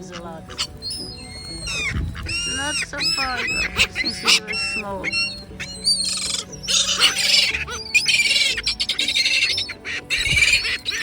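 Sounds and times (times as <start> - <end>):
gull squawks: 0.0 - 11.0
young gulls screaming: 0.0 - 11.0.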